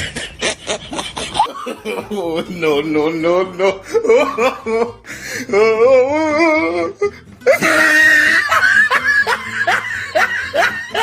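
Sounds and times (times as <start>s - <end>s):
background music: 1.3s - 11.0s.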